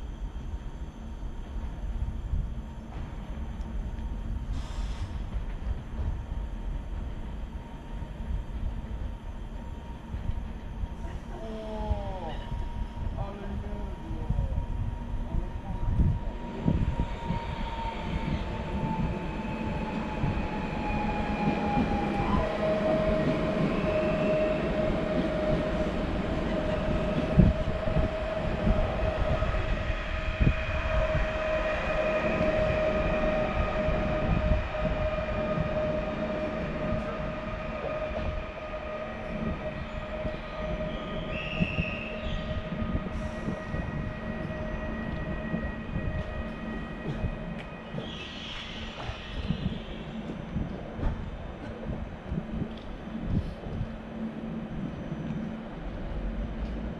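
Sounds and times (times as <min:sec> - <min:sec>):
electric train whine: 0:00.0 - 0:56.9.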